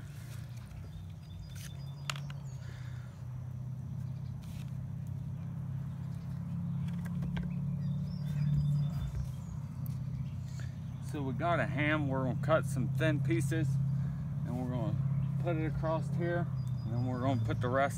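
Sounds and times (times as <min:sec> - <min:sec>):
low engine drone: 0:00.0 - 0:17.9
bird chirps: 0:00.2 - 0:03.2, 0:03.8 - 0:11.4, 0:13.8 - 0:17.9.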